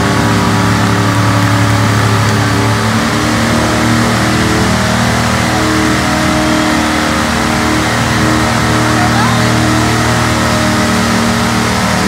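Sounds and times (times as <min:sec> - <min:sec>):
truck engine running at high revs: 0:00.0 - 0:12.0.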